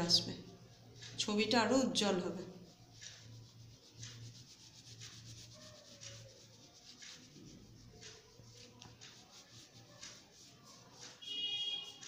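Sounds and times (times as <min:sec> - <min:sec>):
oil pastel scratching on paper: 0:00.0 - 0:12.0.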